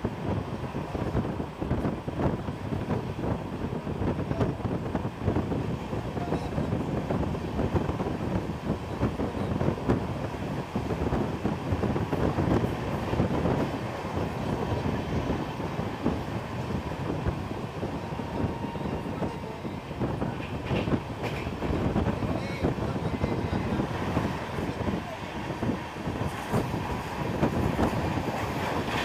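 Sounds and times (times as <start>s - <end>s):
rumble of wheels on rail: 0.0s - 29.0s.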